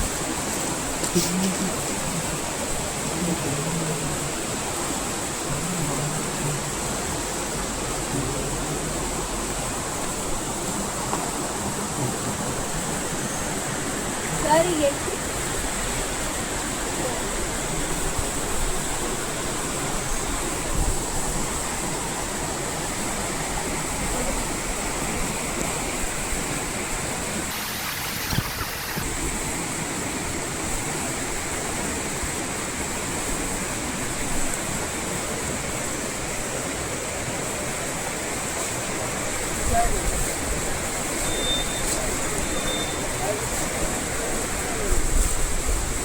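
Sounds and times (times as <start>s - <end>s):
steady high hiss: 0.0s - 46.0s
water rushing over rocks: 0.0s - 46.0s.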